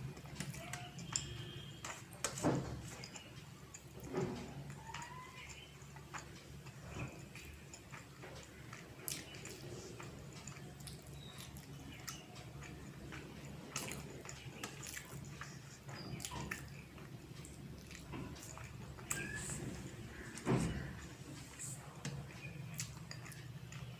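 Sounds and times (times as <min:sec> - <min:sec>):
chewing with wet mouth sounds: 0:00.0 - 0:23.9.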